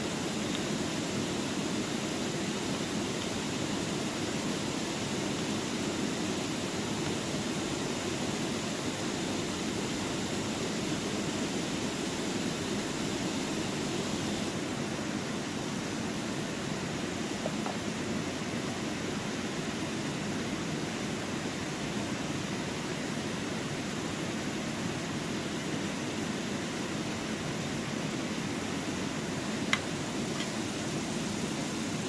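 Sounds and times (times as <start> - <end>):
steady outdoor rushing noise: 0.0 - 32.0.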